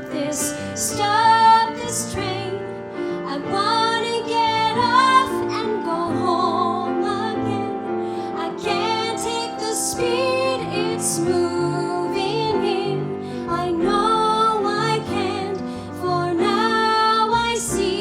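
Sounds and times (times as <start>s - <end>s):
instrumental accompaniment: 0.0s - 18.0s
woman singing slow song: 0.0s - 18.0s.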